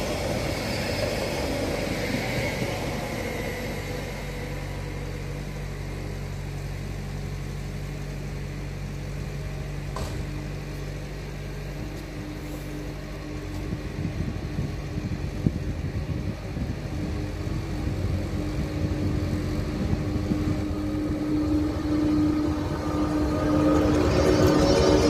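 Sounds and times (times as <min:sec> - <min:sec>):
electric locomotive hum: 0:00.0 - 0:25.0
locomotive whine: 0:00.0 - 0:25.0.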